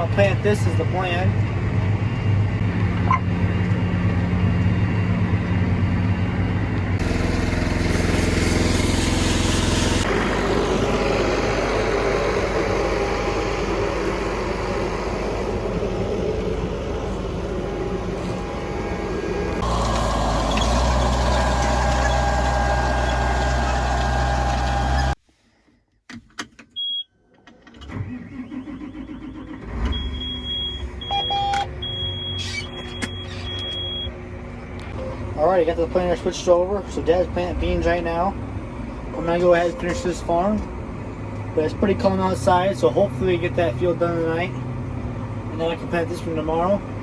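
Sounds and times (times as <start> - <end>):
vehicle engines running: 0.0 - 25.2, 28.8 - 47.0.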